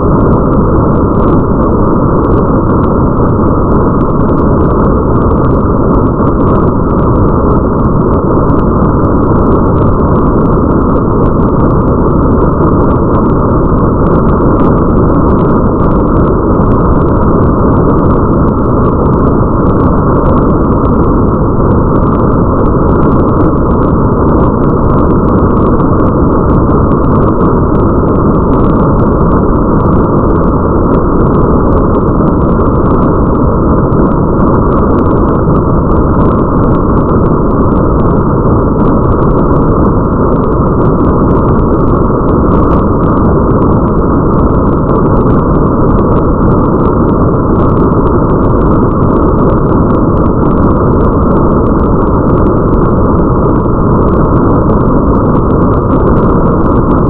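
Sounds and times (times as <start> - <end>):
muffled rain: 0.0 - 57.0.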